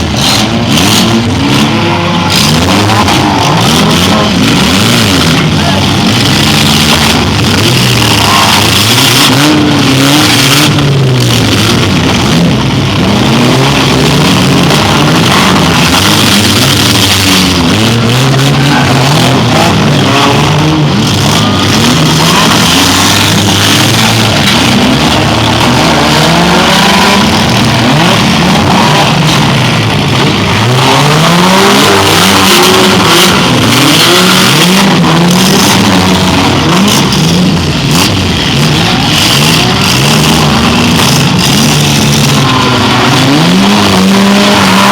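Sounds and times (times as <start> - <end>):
car engines revving: 0.0 - 44.9
steady noise: 0.0 - 44.9.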